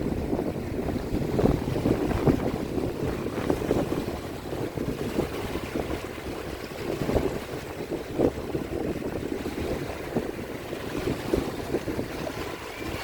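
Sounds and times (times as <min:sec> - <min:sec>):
small waves lapping: 0:00.0 - 0:13.0
wind buffeting microphone: 0:00.0 - 0:13.0.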